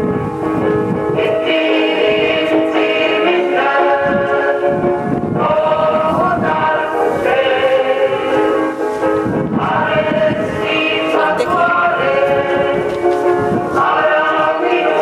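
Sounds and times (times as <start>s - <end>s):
group singing a hymn: 1.1s - 15.0s.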